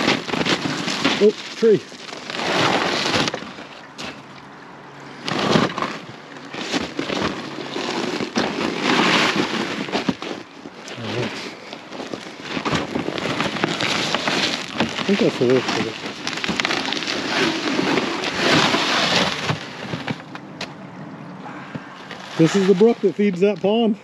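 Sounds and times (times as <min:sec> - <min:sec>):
plastic sled scraping over snow: 0:00.0 - 0:04.3, 0:05.1 - 0:20.4, 0:21.7 - 0:24.0.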